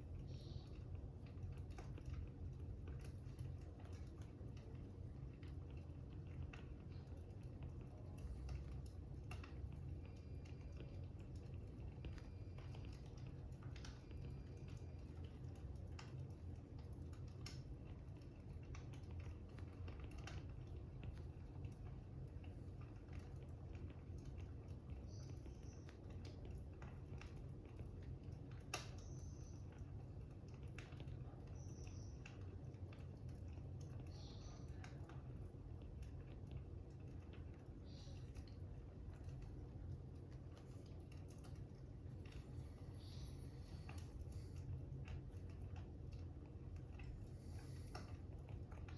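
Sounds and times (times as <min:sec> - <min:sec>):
fire crackling and popping: 0:00.0 - 0:48.9
low steady hum: 0:00.0 - 0:48.9.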